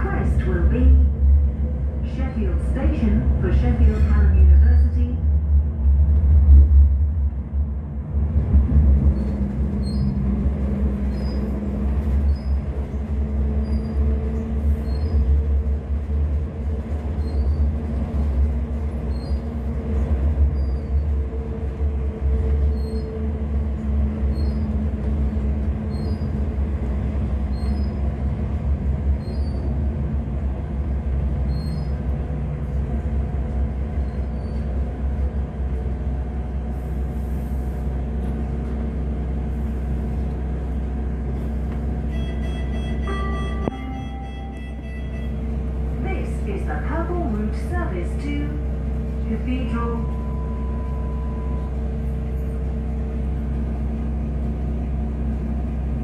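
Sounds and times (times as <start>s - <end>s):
tram motor hum: 0.0s - 56.0s
tram rumbling along track: 0.0s - 56.0s.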